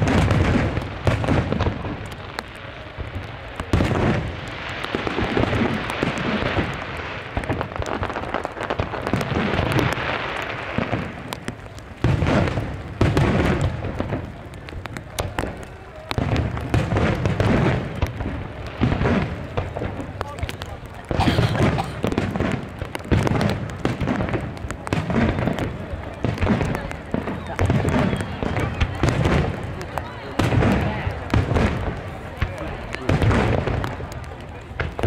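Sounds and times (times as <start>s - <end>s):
fireworks booming: 0.0s - 35.0s
fireworks crackling: 0.0s - 35.0s.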